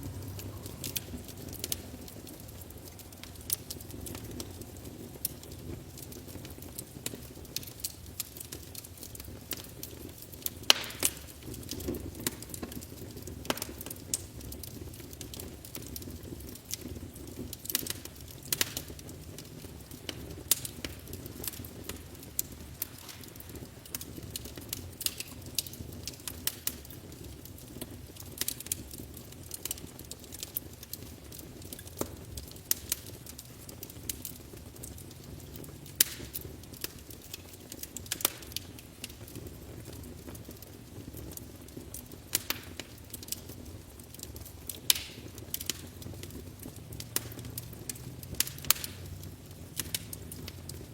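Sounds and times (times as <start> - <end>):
low rumble of flames: 0.0 - 50.9
wood fire popping and snapping: 0.0 - 50.9.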